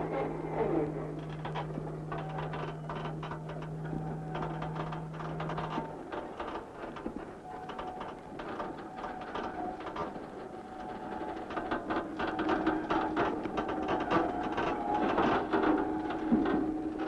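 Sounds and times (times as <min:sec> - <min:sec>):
machinery clattering and knocking: 0:00.0 - 0:17.0
steady motor hum: 0:00.0 - 0:17.0.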